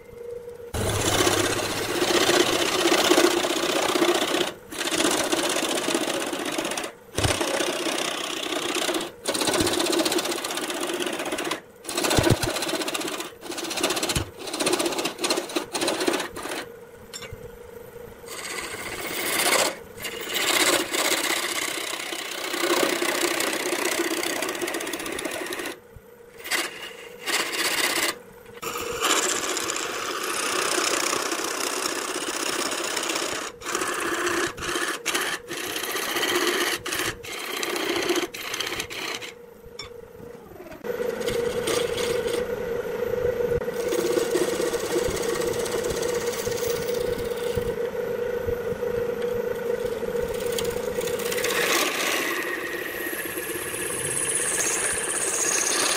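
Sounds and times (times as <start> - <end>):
lathe motor humming: 0.0 - 55.9
lathe tool cutting wood: 0.8 - 16.7, 18.3 - 25.8, 26.4 - 39.4, 40.8 - 42.5, 43.6 - 47.8, 48.8 - 55.9.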